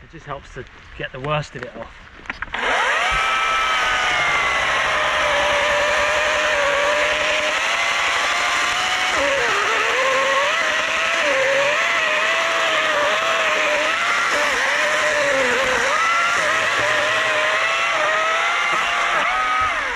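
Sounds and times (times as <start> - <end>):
electric chainsaw cutting log: 2.3 - 19.9.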